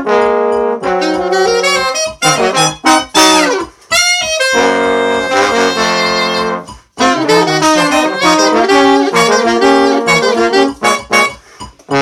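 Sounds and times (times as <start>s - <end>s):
jazz horn section playing: 0.0s - 12.0s.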